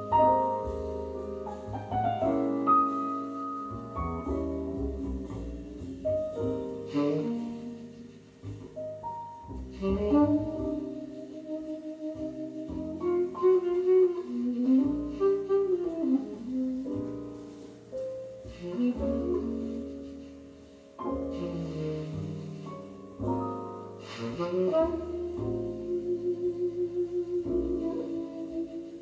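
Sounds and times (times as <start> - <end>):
jazz music over loudspeakers: 0.0 - 29.0.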